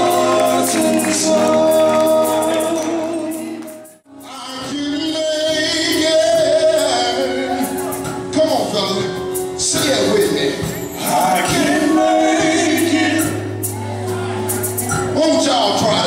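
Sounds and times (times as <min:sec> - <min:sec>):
live band with bass guitar: 0:00.0 - 0:16.0
male gospel group singing: 0:00.0 - 0:16.0.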